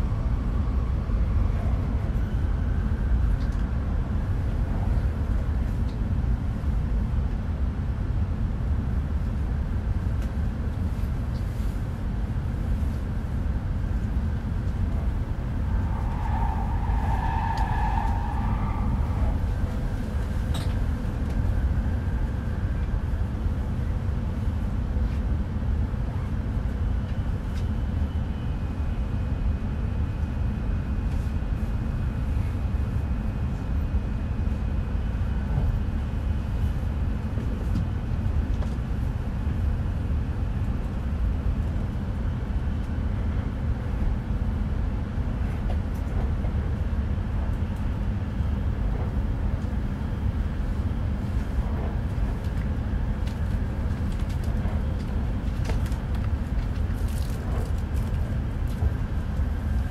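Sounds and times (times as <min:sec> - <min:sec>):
train running low rumble: 0:00.0 - 0:59.9.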